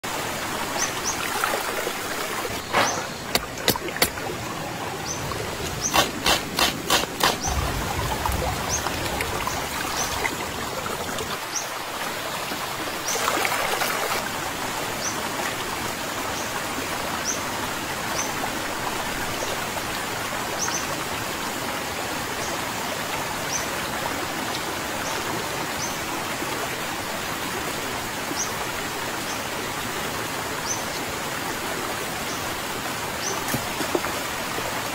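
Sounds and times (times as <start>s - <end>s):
river water flowing: 0.0s - 34.9s
water rush: 0.0s - 34.9s.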